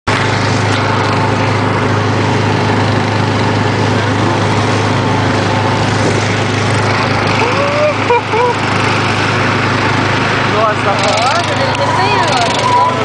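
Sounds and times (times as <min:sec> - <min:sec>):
small petrol engine running: 0:00.1 - 0:13.0.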